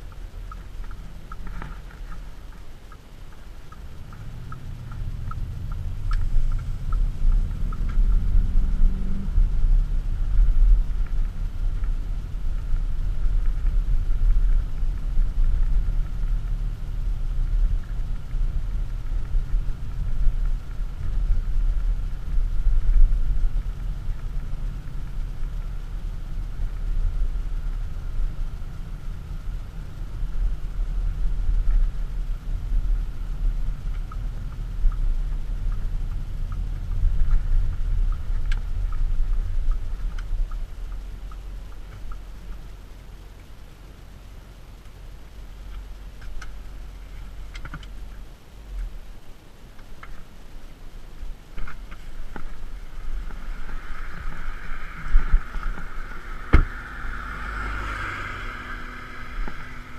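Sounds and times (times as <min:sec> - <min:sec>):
car engine accelerating: 0:00.0 - 0:49.0, 0:51.4 - 0:59.9
tyre rumble while cruising: 0:00.0 - 0:59.9.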